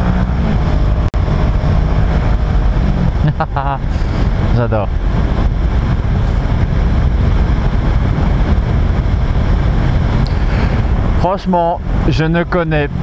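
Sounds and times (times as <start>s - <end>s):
motorcycle engine: 0.0s - 13.0s
road noise: 0.0s - 13.0s
wind rushing on microphone: 0.0s - 13.0s.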